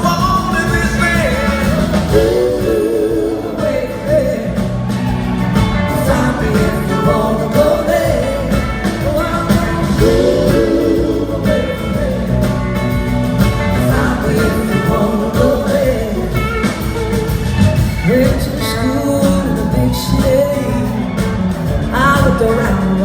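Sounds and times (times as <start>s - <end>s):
person singing: 0.0s - 4.9s, 5.6s - 23.0s
rock blues band playing: 0.0s - 23.0s.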